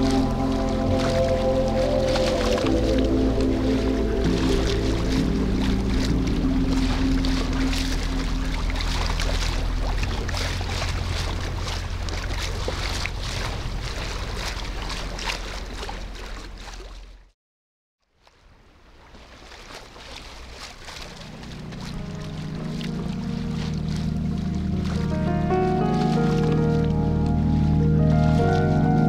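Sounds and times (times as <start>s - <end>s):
water splashing along boat hull: 0.0s - 17.4s, 18.0s - 29.0s
wind: 0.0s - 17.4s, 18.0s - 29.0s.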